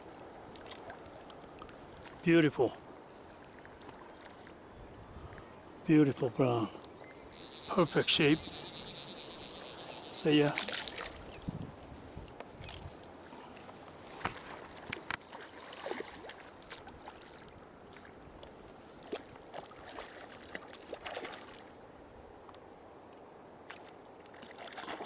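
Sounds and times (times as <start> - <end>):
water splashing in shallows: 0.0 - 4.7, 7.3 - 21.8, 23.6 - 25.0
river water flowing: 0.0 - 25.0.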